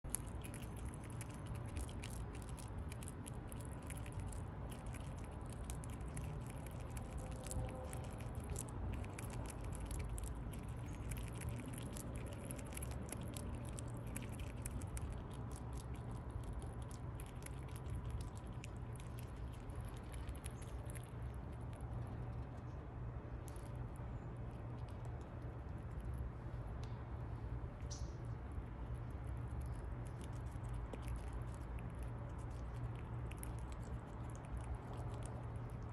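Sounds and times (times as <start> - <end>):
low steady hum: 0.0 - 35.9
squirrel gnawing a nut: 0.0 - 35.9.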